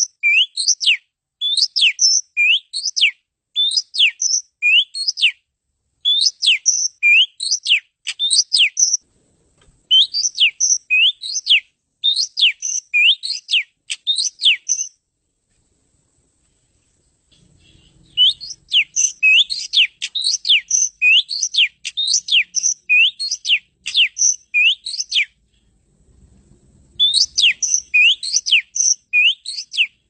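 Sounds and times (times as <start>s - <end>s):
bird singing whistled notes: 0.0s - 5.4s, 6.0s - 9.0s, 9.9s - 15.0s, 17.6s - 25.4s, 27.0s - 30.0s.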